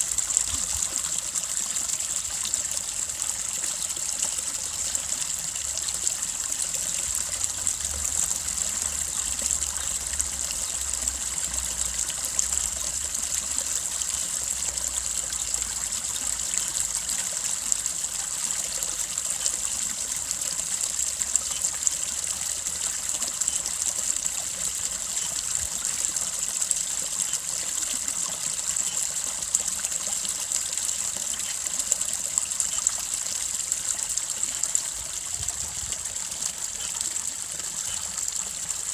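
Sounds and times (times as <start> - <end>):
brook babbling: 0.0 - 38.9.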